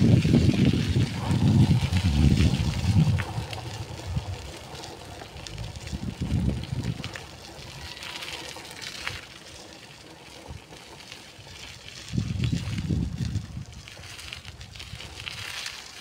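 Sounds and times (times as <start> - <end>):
wind buffeting microphone: 0.0 - 9.3, 10.3 - 16.0
faint street ambience: 0.0 - 16.0.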